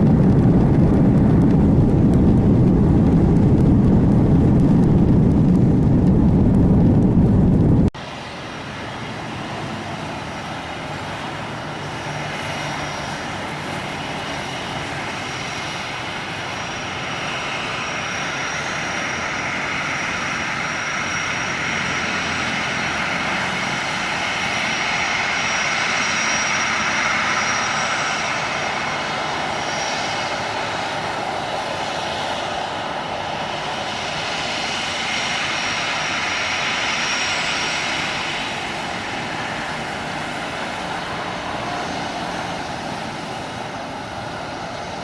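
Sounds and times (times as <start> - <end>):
high engine whine: 0.0 - 45.0
jet engines rushing: 0.0 - 45.0.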